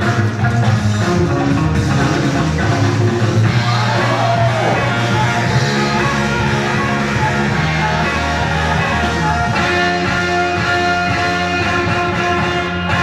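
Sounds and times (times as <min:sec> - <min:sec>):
loud guitar music over speakers: 0:00.0 - 0:13.0.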